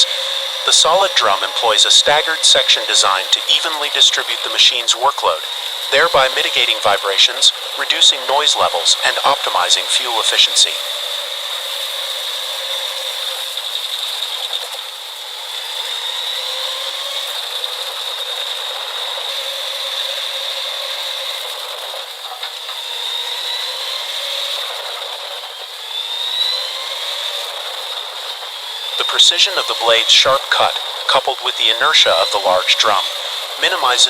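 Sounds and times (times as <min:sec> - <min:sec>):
wood chipper rattling and whining: 0:00.0 - 0:34.0.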